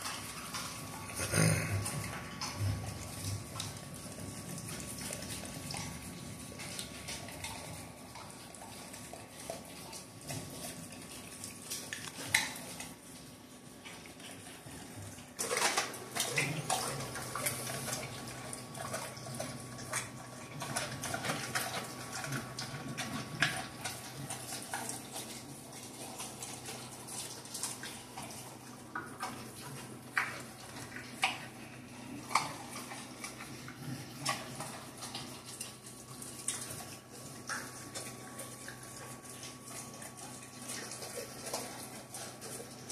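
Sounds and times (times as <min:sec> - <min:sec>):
dog licking and chewing: 0:00.0 - 0:42.9.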